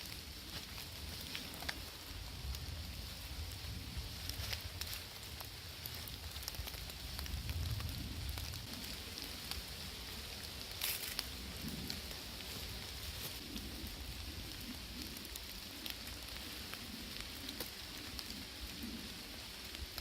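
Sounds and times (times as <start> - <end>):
campfire crackling: 0.0 - 20.0
rain pattering: 0.0 - 20.0.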